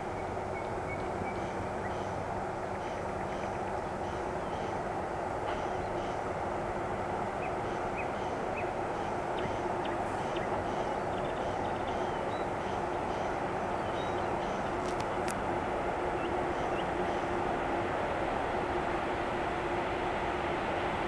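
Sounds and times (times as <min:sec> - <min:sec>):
electric locomotive hum and rumble: 0:00.0 - 0:21.0.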